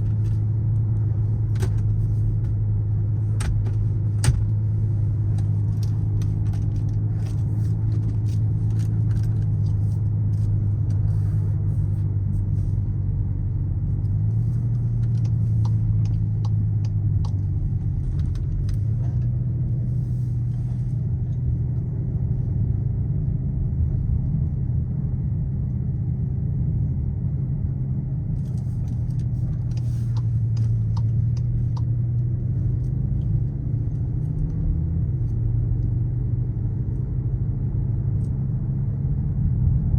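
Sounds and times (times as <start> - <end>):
tyre and road noise: 0.0 - 24.5, 28.0 - 39.9
car engine droning: 0.0 - 39.9.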